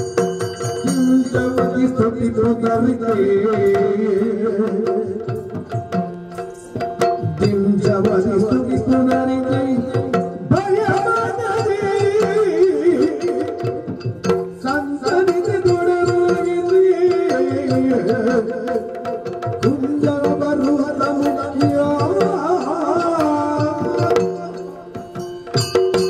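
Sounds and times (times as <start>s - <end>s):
hand drum: 0.0s - 26.0s
person singing: 0.8s - 13.9s, 14.6s - 25.0s.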